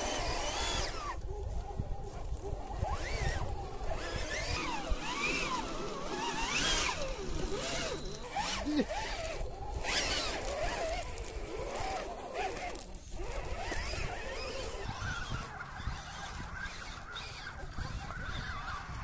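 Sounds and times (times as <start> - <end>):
electric motor and gearbox whining: 0.0 - 19.0.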